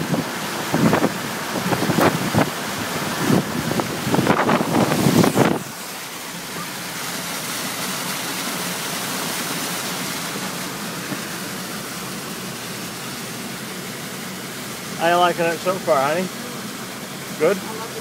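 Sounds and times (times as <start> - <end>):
car wheels splashing water: 0.0 - 18.0
low engine hum: 0.0 - 18.0
rush of tyres and water: 0.0 - 18.0.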